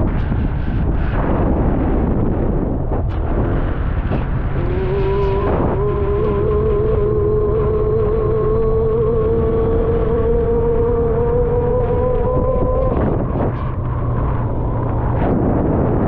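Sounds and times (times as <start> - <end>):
motorbike engine whine: 0.0 - 16.0
road noise: 0.0 - 16.0
wind buffeting microphone: 0.0 - 16.0.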